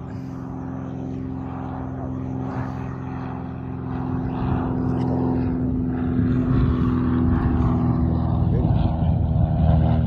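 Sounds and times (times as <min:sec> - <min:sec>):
propeller aircraft engine: 0:00.0 - 0:10.0.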